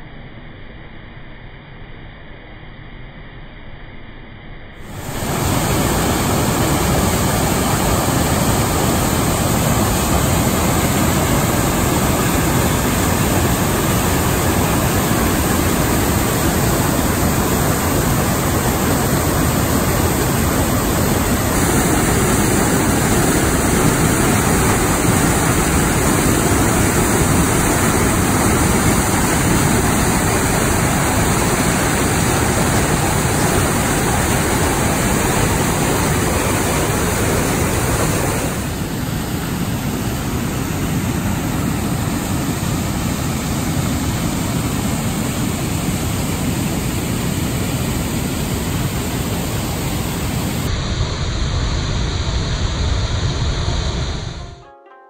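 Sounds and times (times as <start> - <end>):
waterfall rushing into pool: 4.8 - 50.8.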